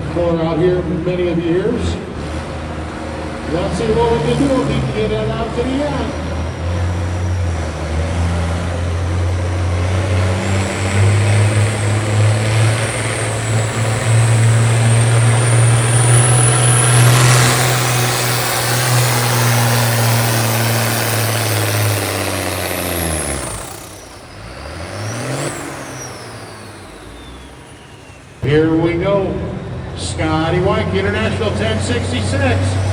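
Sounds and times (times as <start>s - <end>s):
tractor engine running hard: 0.0s - 32.9s.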